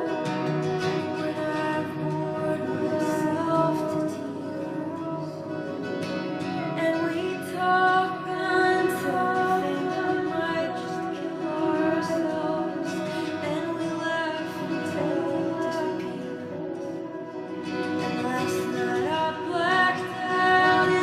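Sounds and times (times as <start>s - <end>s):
woman singing slow song: 0.0s - 21.0s.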